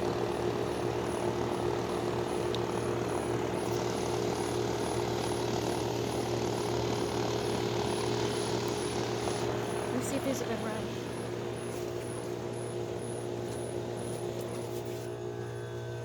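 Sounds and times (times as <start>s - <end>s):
compressor hum: 0.0s - 16.0s
condenser fan rushing air: 0.0s - 16.0s.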